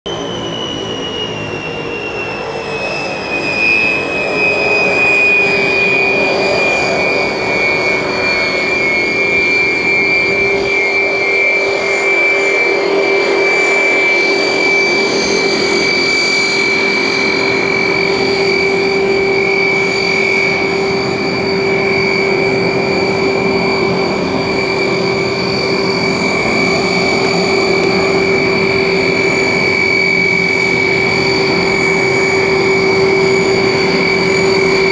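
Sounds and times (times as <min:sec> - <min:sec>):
turboprop engines whining: 0:00.0 - 0:34.9.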